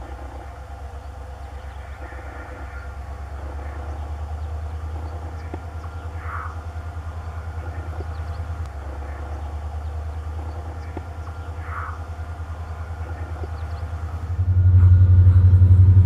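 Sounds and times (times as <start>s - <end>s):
diesel locomotive droning: 0.0s - 16.0s.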